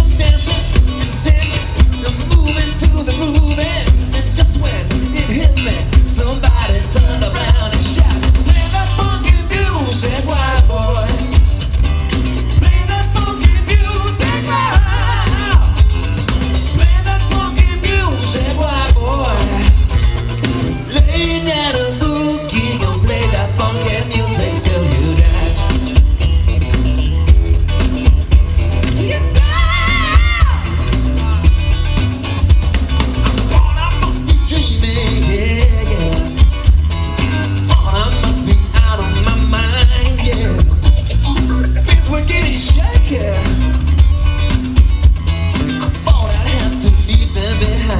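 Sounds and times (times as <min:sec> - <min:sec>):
lead vocal singing: 0:00.0 - 0:11.8, 0:12.5 - 0:26.0, 0:28.8 - 0:31.8, 0:33.2 - 0:36.6, 0:37.6 - 0:43.9, 0:45.8 - 0:47.9
rock band playing: 0:00.0 - 0:47.9.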